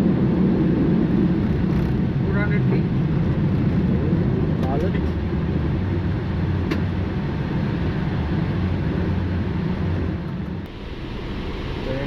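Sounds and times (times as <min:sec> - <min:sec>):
aircraft cockpit rumble: 0:00.0 - 0:12.0.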